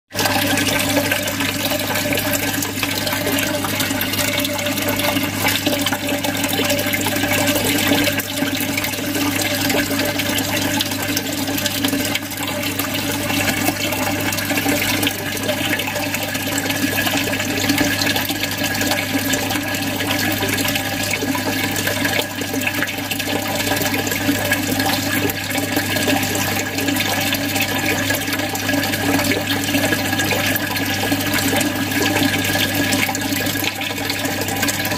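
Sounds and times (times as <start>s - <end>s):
aquarium filter water gurgling: 0.1s - 34.9s.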